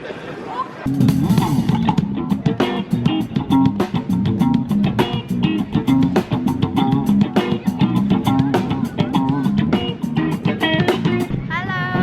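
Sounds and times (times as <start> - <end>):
plucked guitar music with beat: 0.9 - 11.3.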